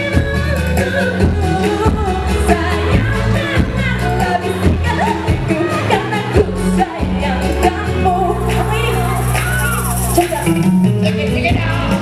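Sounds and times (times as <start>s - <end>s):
pop band playing: 0.0s - 12.0s
woman singing into a microphone: 0.0s - 12.0s
steady drum beat: 0.1s - 12.0s.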